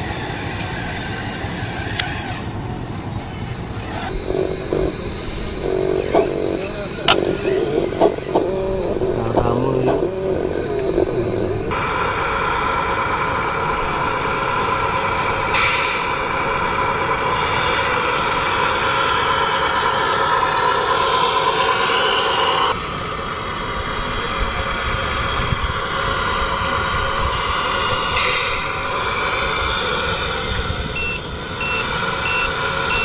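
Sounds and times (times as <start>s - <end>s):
toy truck motor drone: 0.0s - 33.0s.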